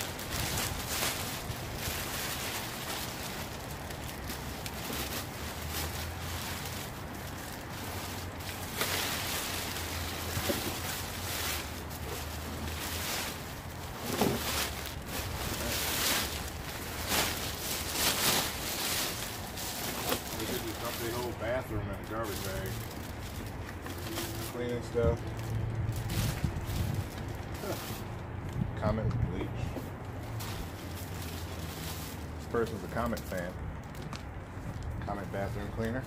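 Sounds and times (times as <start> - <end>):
plastic bags rustling: 0.0 - 28.6, 29.7 - 35.7.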